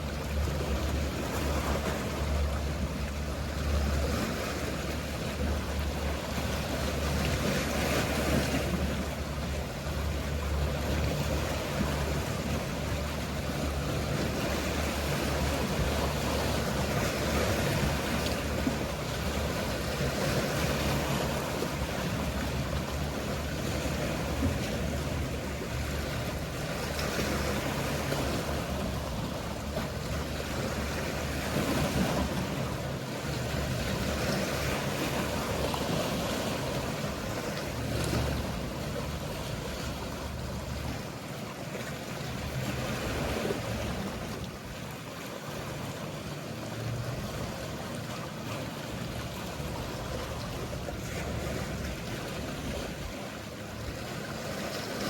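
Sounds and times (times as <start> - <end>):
boat engine hum: 0.0 - 55.0
sea waves washing: 0.0 - 55.0.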